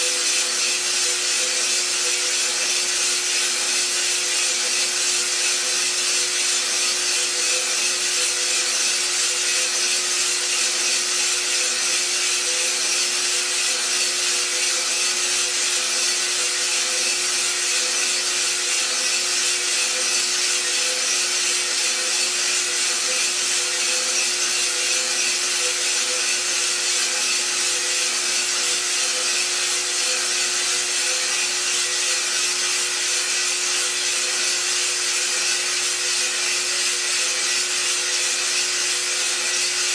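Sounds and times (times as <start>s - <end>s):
coffee beans tumbling in drum: 0.0s - 39.9s
coffee roaster motor and fan hum: 0.0s - 39.9s.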